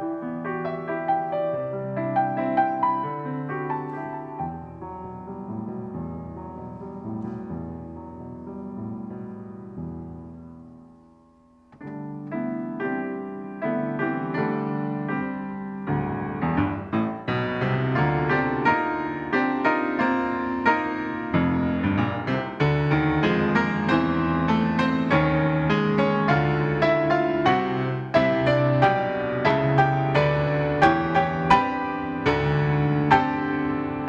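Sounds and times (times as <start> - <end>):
solo grand piano: 0.0 - 34.0.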